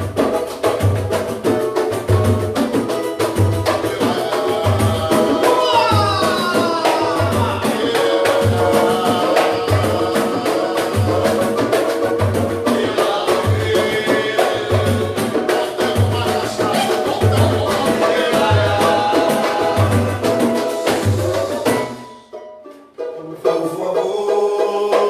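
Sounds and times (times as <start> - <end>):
deep drum beat: 0.0 - 22.0
hand percussion and shakers: 0.0 - 22.3.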